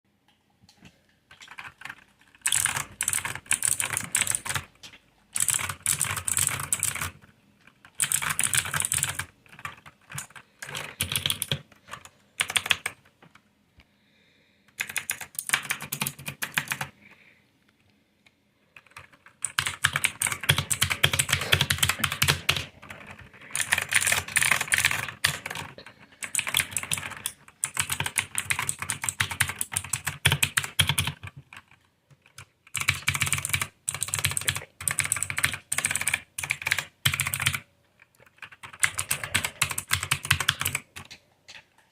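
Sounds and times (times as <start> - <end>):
keyboard keys clicking: 0.8 - 13.4, 14.7 - 16.9, 18.8 - 41.9.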